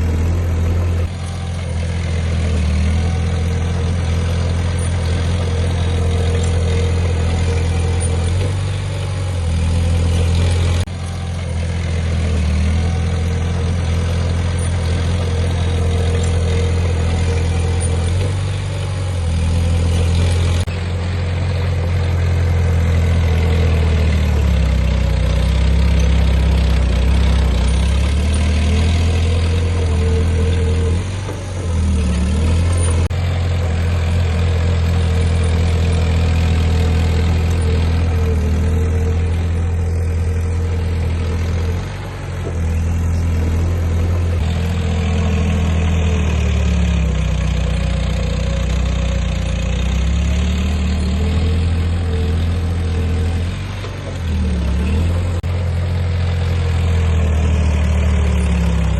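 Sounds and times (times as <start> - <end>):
heavy diesel machinery engine: 0.0 - 58.9.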